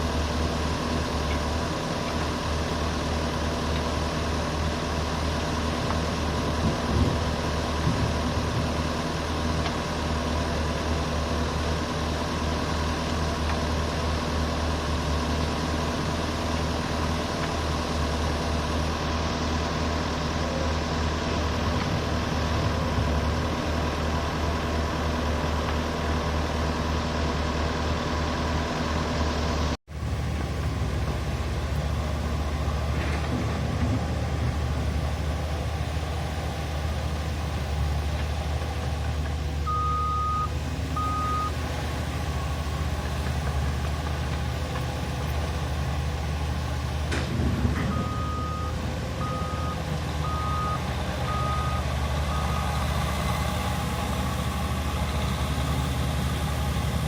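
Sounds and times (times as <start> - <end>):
heavy machinery diesel engines droning: 0.0 - 57.0.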